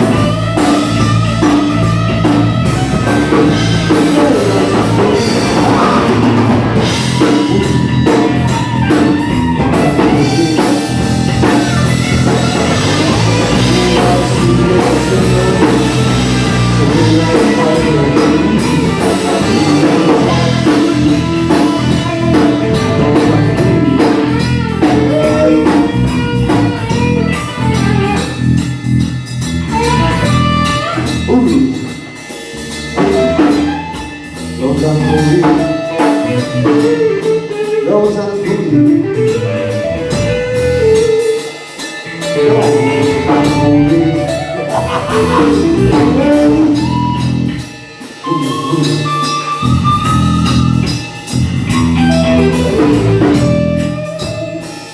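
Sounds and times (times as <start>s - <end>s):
electric guitar: 0.0s - 54.9s
rock and roll band playing: 0.0s - 54.9s.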